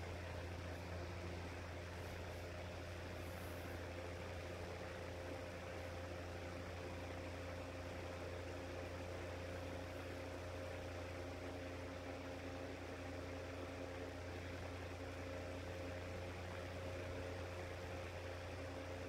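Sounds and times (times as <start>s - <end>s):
electric fan motor humming: 0.0s - 19.0s.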